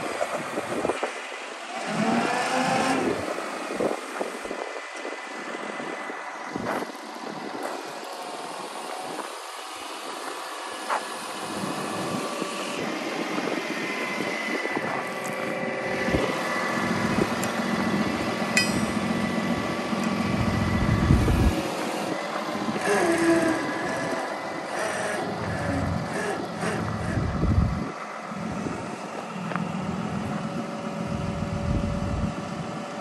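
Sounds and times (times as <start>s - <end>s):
diesel engine running: 0.0s - 33.0s
steady whine: 2.9s - 33.0s.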